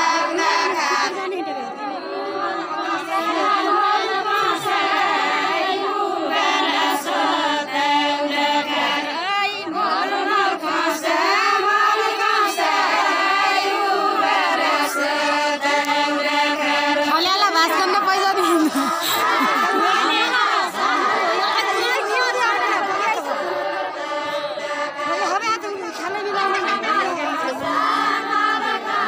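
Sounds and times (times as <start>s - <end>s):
women singing in chorus: 0.0s - 29.0s.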